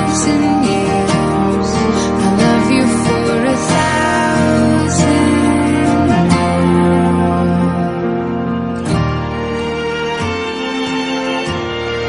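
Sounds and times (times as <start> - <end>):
gliding melody line: 0.0 - 12.0
guitar playing: 0.0 - 12.0.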